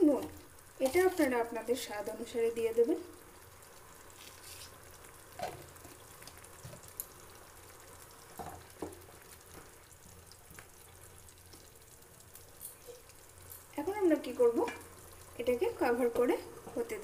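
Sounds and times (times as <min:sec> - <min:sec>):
faint simmering hiss: 0:00.0 - 0:17.0.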